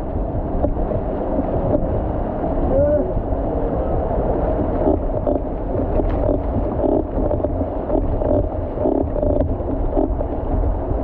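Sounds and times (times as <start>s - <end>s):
water splashing along canoe hull: 0.0s - 11.0s
wind buffeting microphone: 0.0s - 11.0s.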